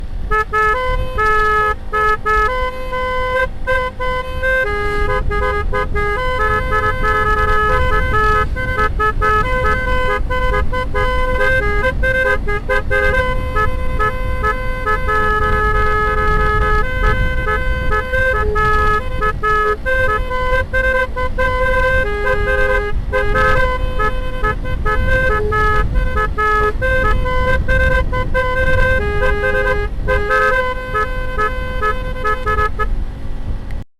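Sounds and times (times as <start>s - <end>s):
musical air horn playing a tune: 0.2s - 33.0s.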